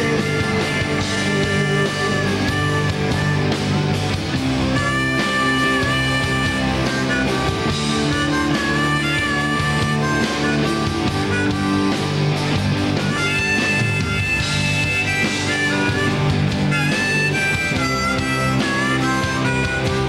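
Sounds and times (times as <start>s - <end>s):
harmonica: 0.0s - 20.0s
rock band playing: 0.0s - 20.0s.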